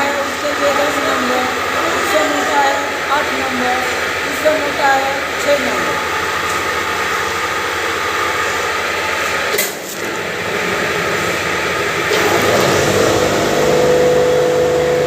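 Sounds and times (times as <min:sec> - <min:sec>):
pulverizer machine running: 0:00.0 - 0:15.0.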